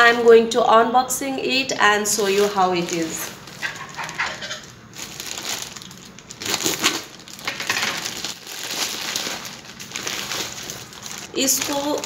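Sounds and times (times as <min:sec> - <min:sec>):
plastic packet crinkling: 0:02.1 - 0:12.0.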